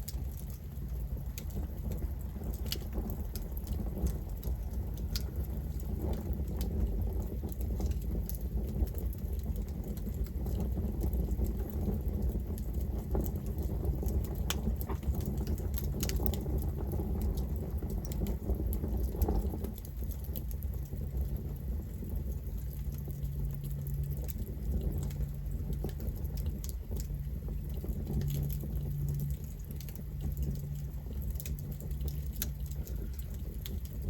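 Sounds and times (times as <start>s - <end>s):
campfire wood crackling and popping: 0.0s - 34.0s
low fire rumble: 0.0s - 34.0s.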